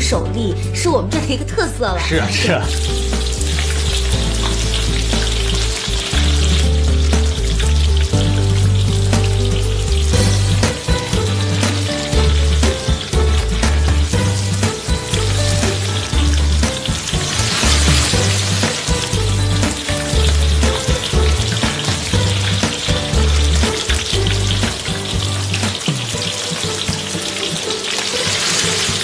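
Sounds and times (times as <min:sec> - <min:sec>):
music with pulsing bass beat: 0:01.2 - 0:27.4
food sizzling in a wok: 0:02.2 - 0:29.0.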